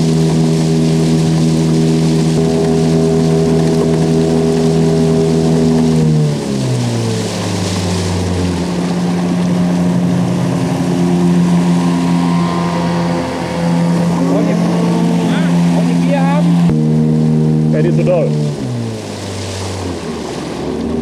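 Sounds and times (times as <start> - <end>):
outboard motors running: 0.0 - 21.0.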